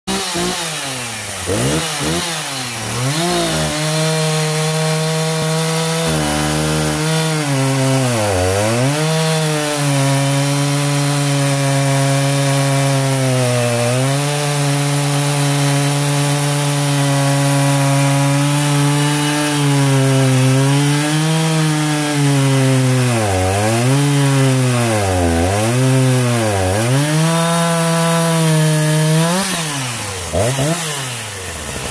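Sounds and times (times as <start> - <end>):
chainsaw cutting hard wood: 0.1 - 31.9.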